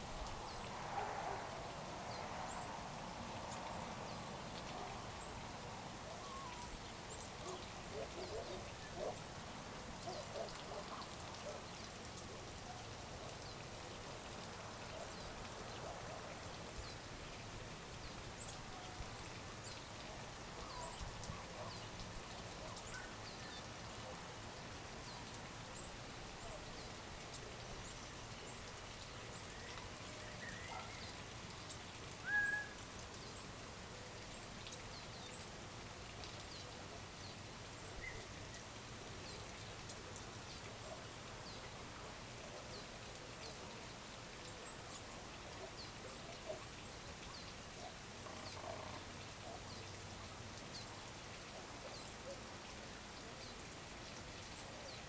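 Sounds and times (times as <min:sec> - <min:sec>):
outdoor hiss: 0:00.0 - 0:55.0.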